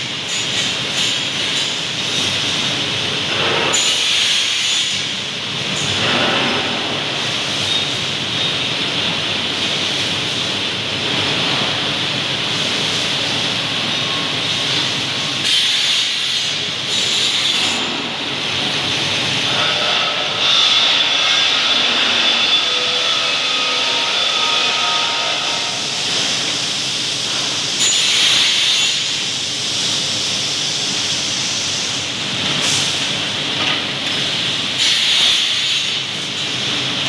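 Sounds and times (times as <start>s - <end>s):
loud steady hiss: 0.0s - 37.0s
rolling mill machinery: 0.0s - 37.0s.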